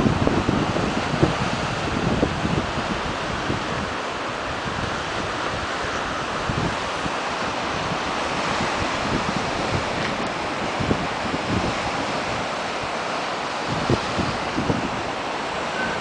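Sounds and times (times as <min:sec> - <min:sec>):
ocean surf washing onto beach: 0:00.0 - 0:16.0
wind buffeting microphone: 0:00.0 - 0:16.0.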